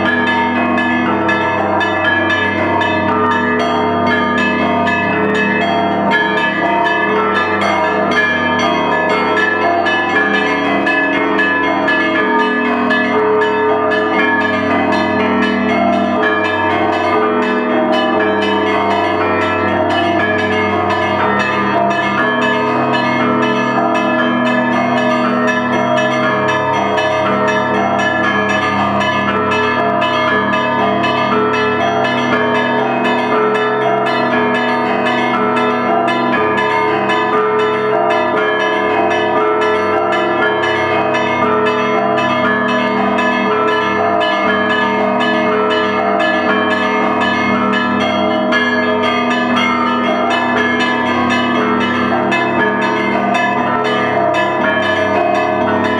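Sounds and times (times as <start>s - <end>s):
hum of large bells: 0.0s - 55.9s.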